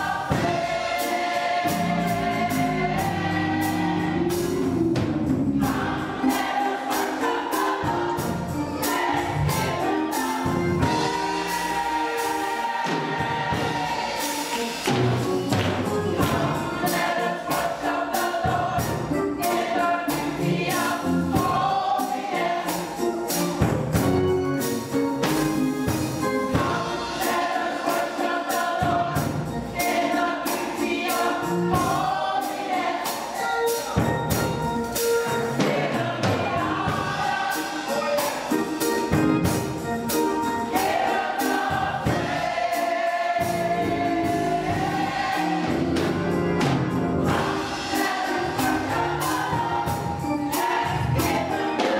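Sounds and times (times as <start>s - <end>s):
band accompaniment with steady beat: 0.0s - 51.9s
gospel choir singing: 0.0s - 51.9s.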